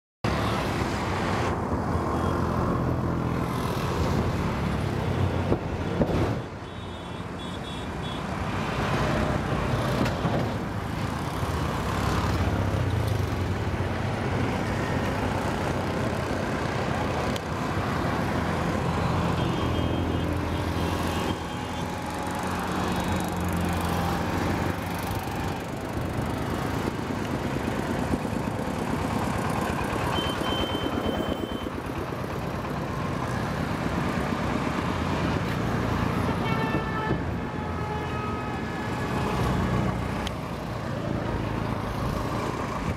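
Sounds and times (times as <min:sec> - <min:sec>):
road traffic passing: 0:00.2 - 0:42.9.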